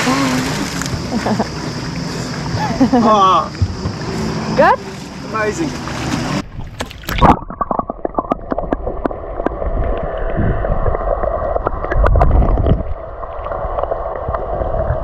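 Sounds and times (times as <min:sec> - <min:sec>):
water splashing: 0:00.0 - 0:14.8
low underwater rumbles: 0:00.0 - 0:15.0
underwater gurgling and sloshing: 0:00.0 - 0:15.0.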